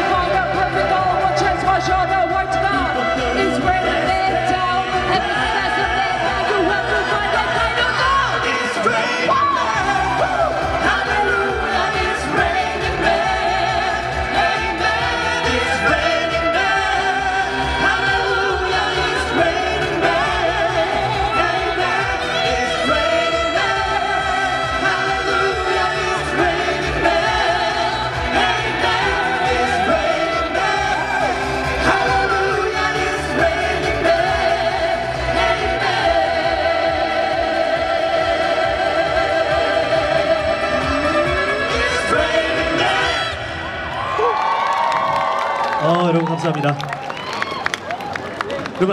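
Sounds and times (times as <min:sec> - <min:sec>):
person singing through microphone: 0:00.0 - 0:43.8
backing music track: 0:00.0 - 0:46.7.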